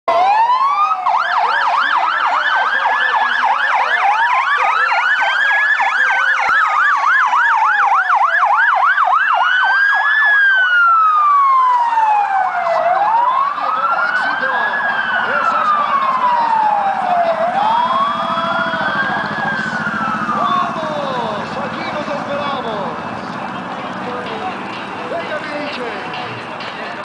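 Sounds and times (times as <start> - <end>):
fast yelping siren: 0.1 - 22.8
slow wailing siren: 0.1 - 24.8.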